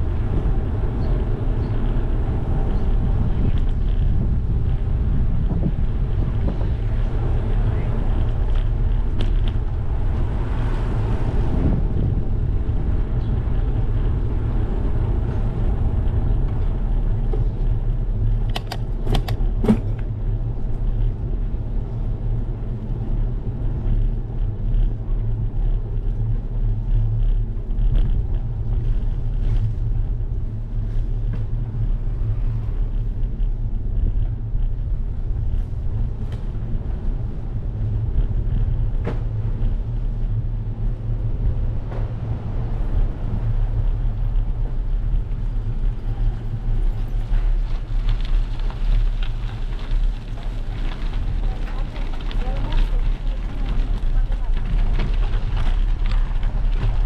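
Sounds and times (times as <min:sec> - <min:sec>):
wind and road vibration rumble: 0:00.0 - 0:57.0.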